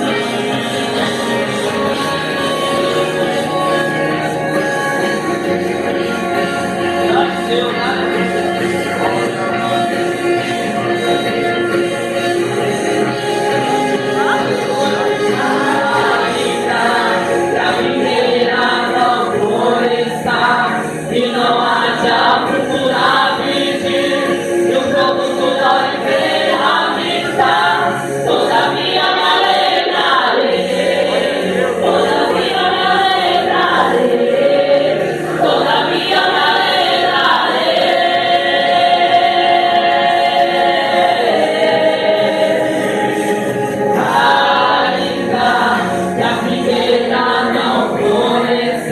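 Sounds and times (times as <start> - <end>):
group singing gospel song: 0.0 - 48.9.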